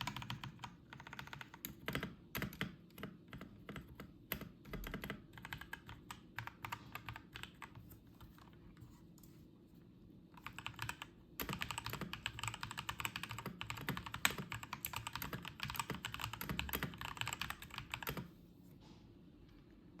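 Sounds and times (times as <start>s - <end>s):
mechanical keyboard typing: 0.0s - 8.6s, 10.4s - 18.3s.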